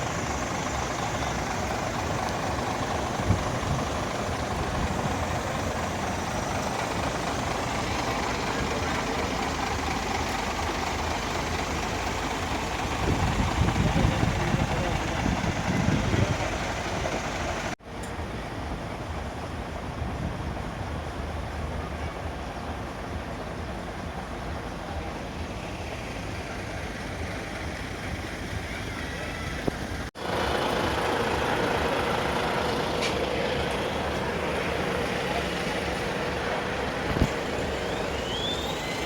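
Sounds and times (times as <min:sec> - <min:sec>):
truck engines rumbling: 0:00.0 - 0:39.0.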